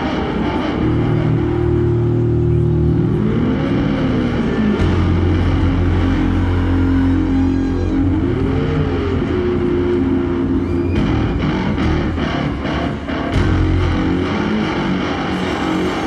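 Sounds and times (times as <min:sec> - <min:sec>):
distorted electric bass solo: 0:00.0 - 0:16.0.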